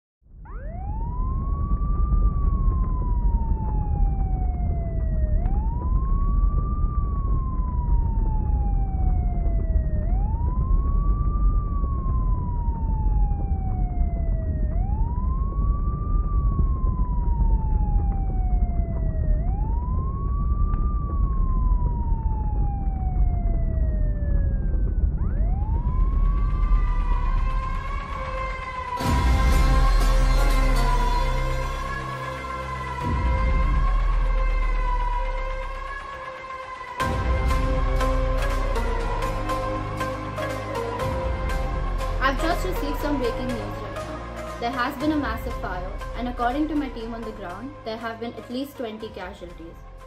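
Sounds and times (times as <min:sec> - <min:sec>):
emergency siren wailing: 0:00.3 - 0:50.0
low rumble: 0:00.3 - 0:50.0.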